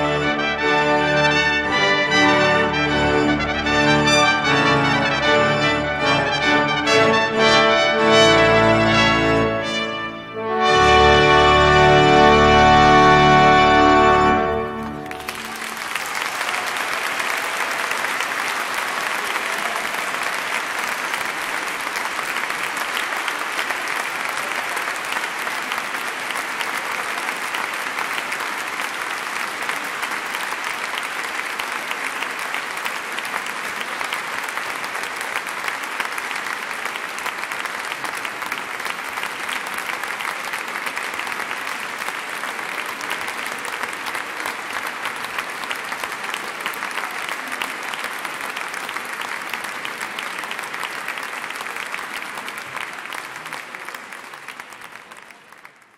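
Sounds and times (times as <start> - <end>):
audience applauding: 0.0 - 55.9.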